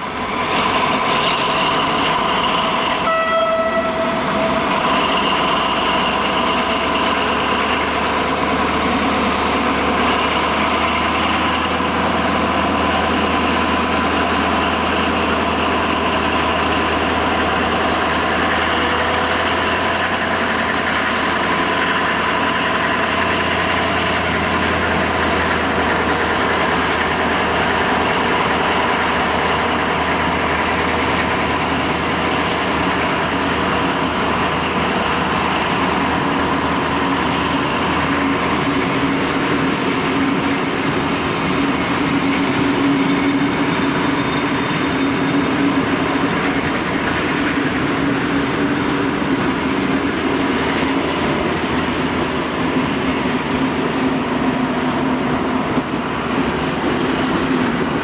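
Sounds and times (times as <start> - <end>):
locomotive diesel engine running: 0.0 - 58.0.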